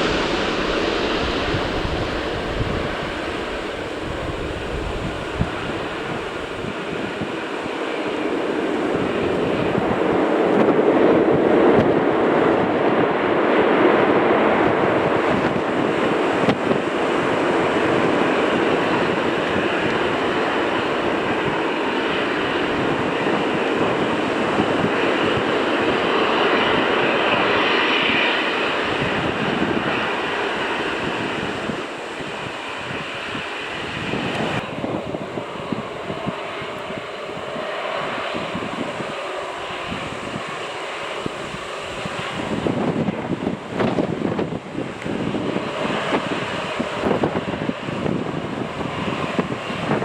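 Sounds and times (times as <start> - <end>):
high-pitched engine whine: 0.0 - 50.0
jet engines rushing past: 0.0 - 50.0.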